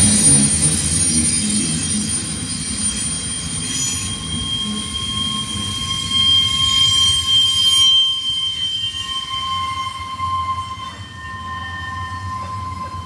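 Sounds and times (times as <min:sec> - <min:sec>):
high-pitched wheel squeal: 0:00.0 - 0:13.0
train wheels rumbling on rails: 0:00.0 - 0:13.0.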